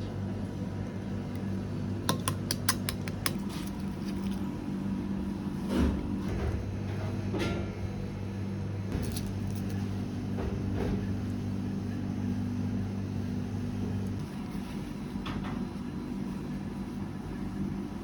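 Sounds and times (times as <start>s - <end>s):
kitchen machinery humming: 0.0s - 18.0s.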